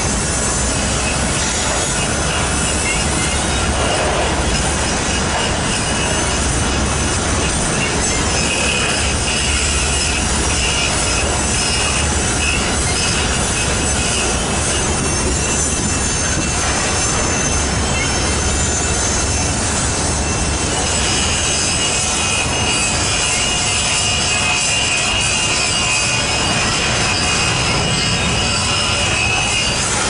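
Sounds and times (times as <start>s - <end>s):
high wheel squeal: 0.0s - 30.0s
steel wheels rumbling on rail: 0.0s - 30.0s.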